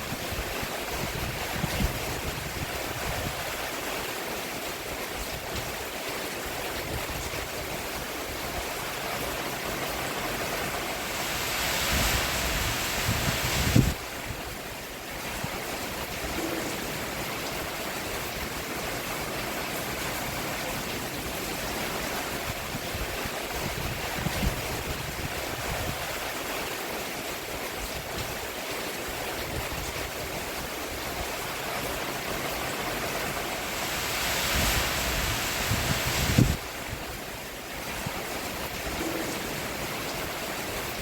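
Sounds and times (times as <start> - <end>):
rain falling on a roof: 0.0 - 41.0.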